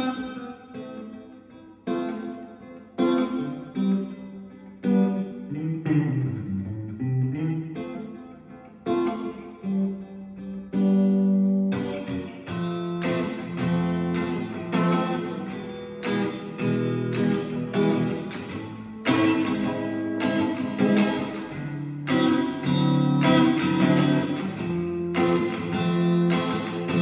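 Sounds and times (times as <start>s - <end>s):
clean electric guitar: 0.0s - 27.0s.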